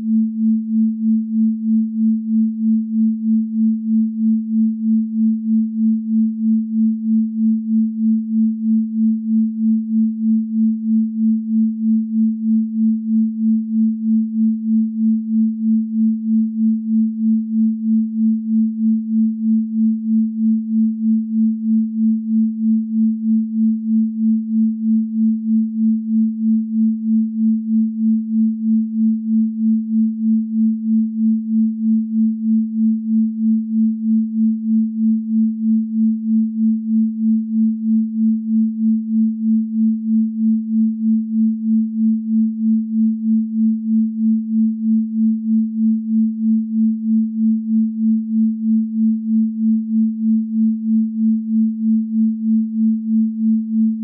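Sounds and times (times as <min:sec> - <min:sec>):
pulsing sine tone: 0:00.0 - 0:54.0.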